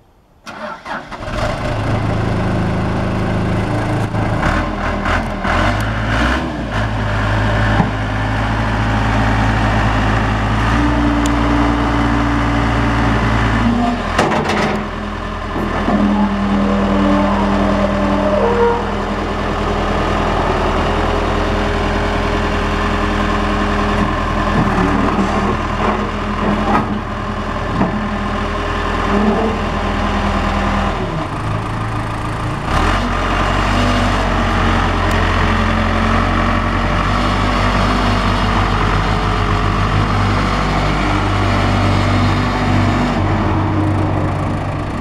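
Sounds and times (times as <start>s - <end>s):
backhoe engine running: 0.5s - 45.0s.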